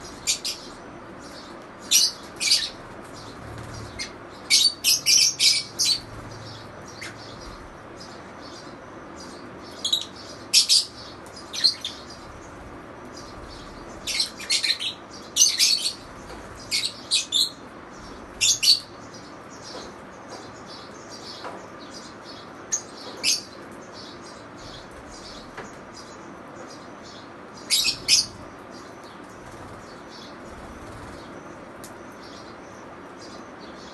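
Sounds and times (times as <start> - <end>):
lovebirds chirping: 0.0 - 33.9.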